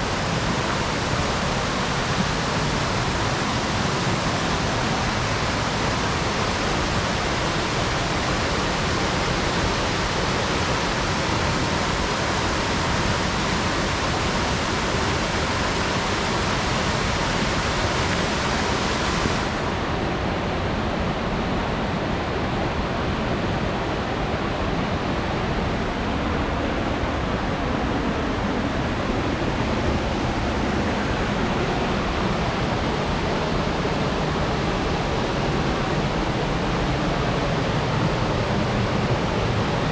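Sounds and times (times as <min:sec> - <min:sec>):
waterfall rushing: 0:00.0 - 0:20.6, 0:24.1 - 0:39.9.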